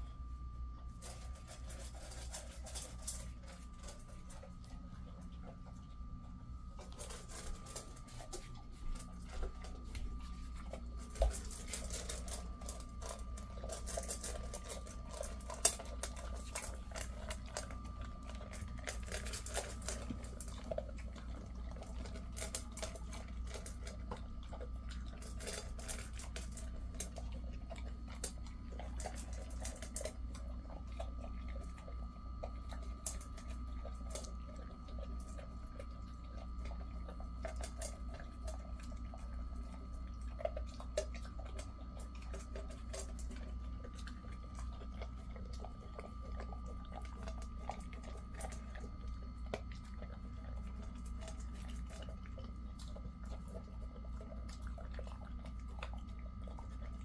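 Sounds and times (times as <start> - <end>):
dog mouth clicking on metal bowl: 6.8 - 57.0.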